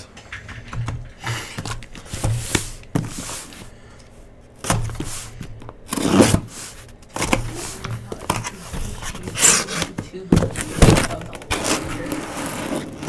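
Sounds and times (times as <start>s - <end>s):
cardboard and tape rustling: 0.0s - 13.0s.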